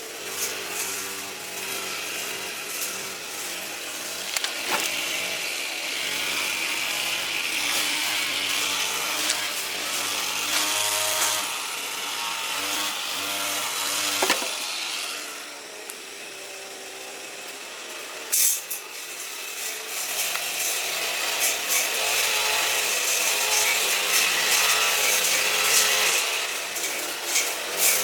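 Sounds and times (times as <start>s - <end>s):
motorised cutting tool cutting: 0.0s - 28.0s.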